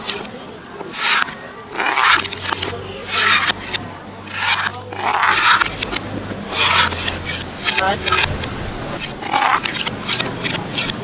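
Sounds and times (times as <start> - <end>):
metal spoon scraping mortar: 0.0 - 8.4, 9.0 - 11.0.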